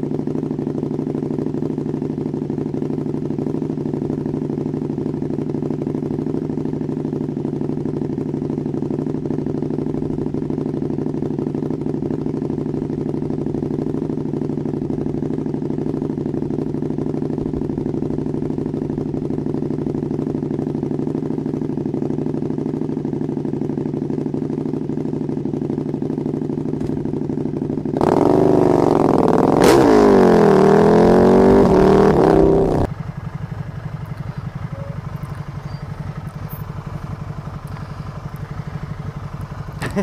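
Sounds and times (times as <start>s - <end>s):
motorcycle engine idling and revving: 0.0s - 40.0s.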